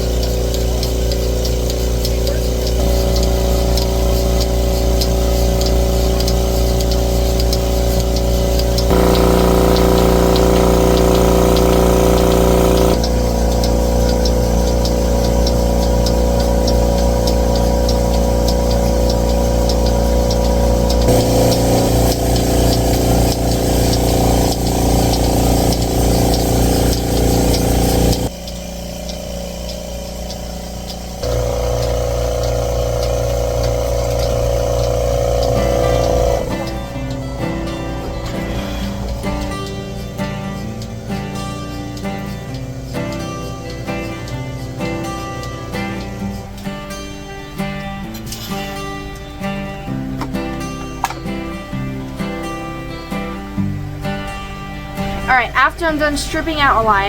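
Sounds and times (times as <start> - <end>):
milking machine humming: 0.0 - 47.8.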